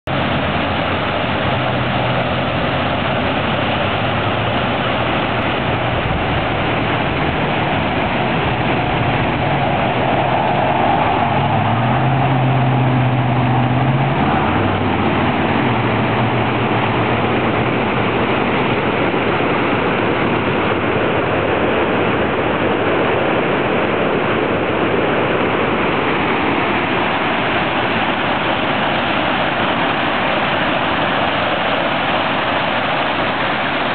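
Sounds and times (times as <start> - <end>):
water rushing over a weir: 0.0 - 33.9.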